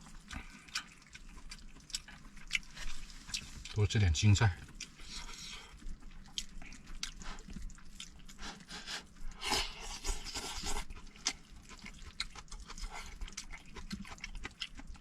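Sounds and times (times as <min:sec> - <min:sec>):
person chewing and crunching food: 0:00.0 - 0:15.0.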